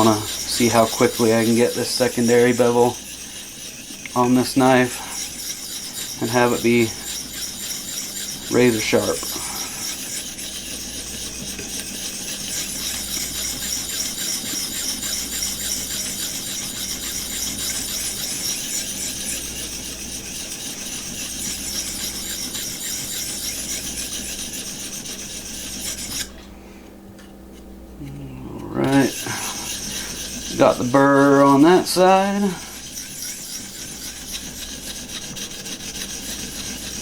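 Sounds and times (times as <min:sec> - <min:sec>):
knife scraping on sharpening stone: 0:00.0 - 0:26.4, 0:28.6 - 0:37.0.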